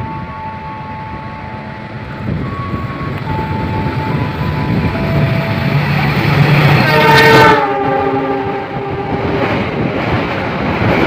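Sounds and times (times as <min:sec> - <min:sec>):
locomotive rumbling on rails: 0:00.0 - 0:11.0.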